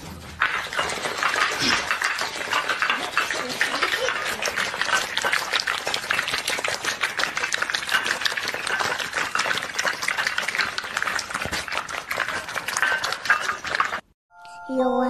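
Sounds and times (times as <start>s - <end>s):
puppies chewing and lapping: 0.0s - 14.2s
muzzles knocking against bowls: 0.2s - 14.1s.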